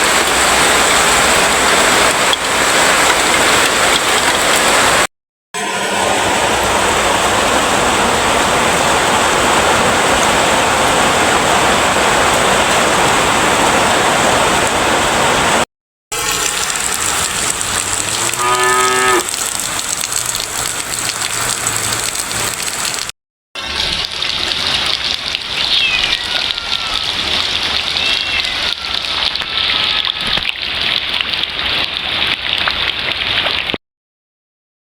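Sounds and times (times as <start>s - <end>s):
heavy rain pouring: 0.0s - 33.8s.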